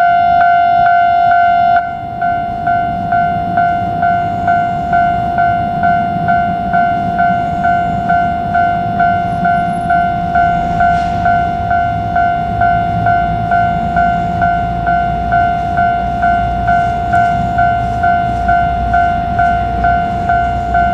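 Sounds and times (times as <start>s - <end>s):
level crossing alarm ding: 0.0s - 20.9s
low rumble: 1.8s - 20.8s.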